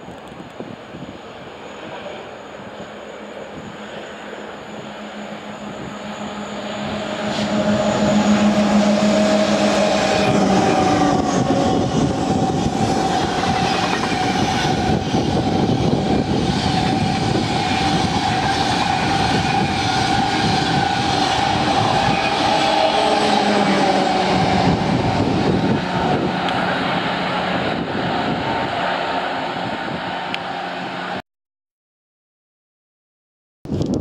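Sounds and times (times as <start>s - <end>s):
train wheels on rails: 0.0s - 29.2s
high-speed train passing: 0.0s - 31.2s
steady whine: 1.1s - 31.2s.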